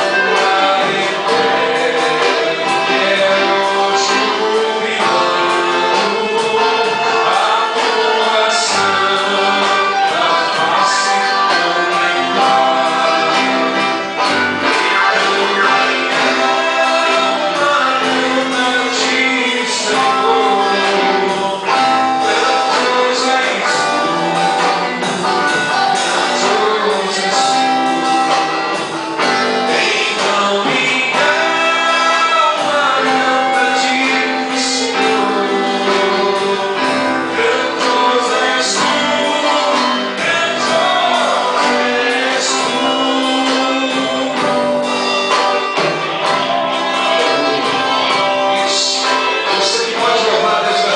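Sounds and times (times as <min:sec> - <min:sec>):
band playing worship song: 0:00.0 - 0:50.9
people singing: 0:00.0 - 0:50.9.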